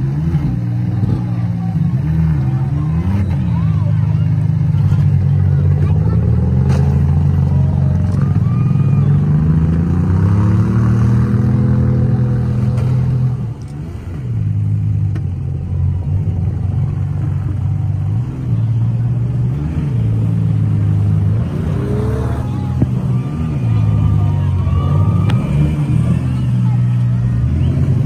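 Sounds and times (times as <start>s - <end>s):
engines revving hard: 0.0s - 28.0s.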